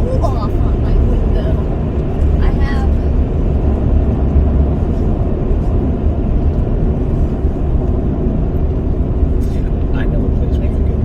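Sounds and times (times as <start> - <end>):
car road rumble inside cabin: 0.0 - 11.0.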